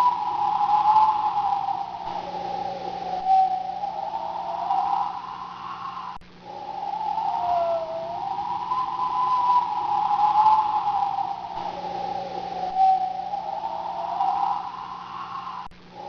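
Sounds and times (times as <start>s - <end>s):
storm wind howling: 0.0s - 16.0s.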